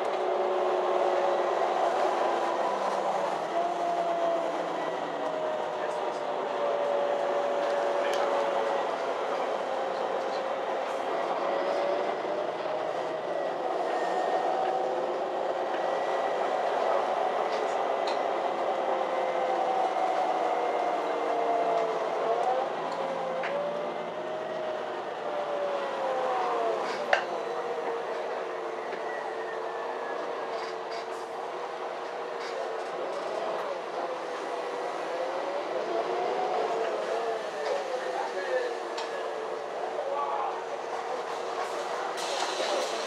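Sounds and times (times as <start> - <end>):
bus drivetrain whine: 0.0 - 43.0.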